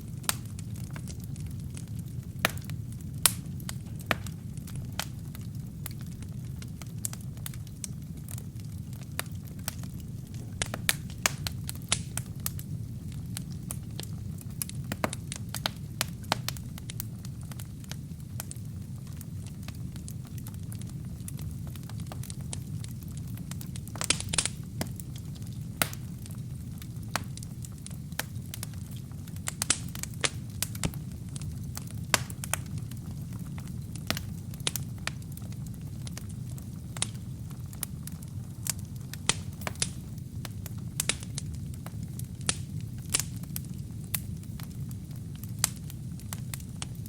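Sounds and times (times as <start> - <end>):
wood fire burning: 0.0 - 47.0.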